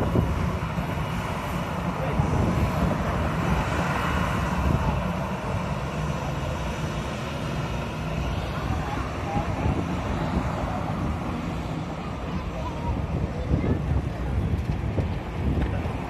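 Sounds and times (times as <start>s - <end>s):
jet engine rumble: 0.0s - 16.0s
wind buffeting microphone: 0.0s - 16.0s.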